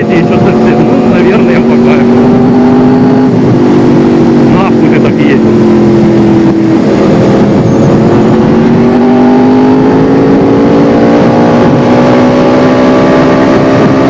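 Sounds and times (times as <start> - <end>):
motorcycle engine running: 0.0 - 14.0
wind over microphone: 0.0 - 14.0.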